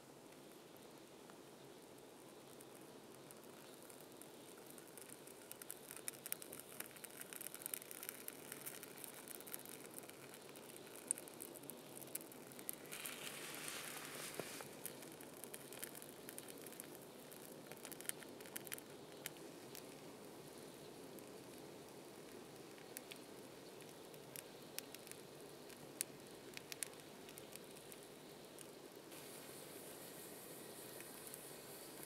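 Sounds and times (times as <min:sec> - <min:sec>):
soft fire hiss: 0:00.0 - 0:32.0
kindling crackling: 0:00.3 - 0:32.0.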